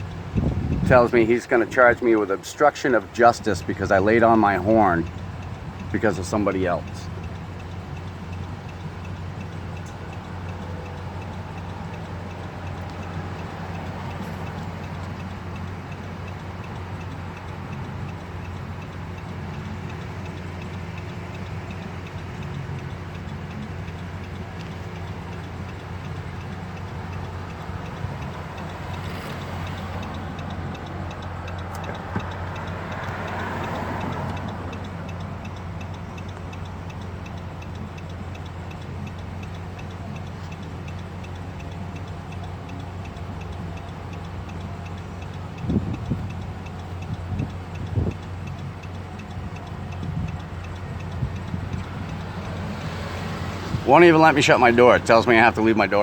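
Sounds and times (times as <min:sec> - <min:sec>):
car engine idling: 0:00.0 - 0:56.0
indicator relay ticking: 0:00.0 - 0:56.0
passing vehicle: 0:00.0 - 0:56.0.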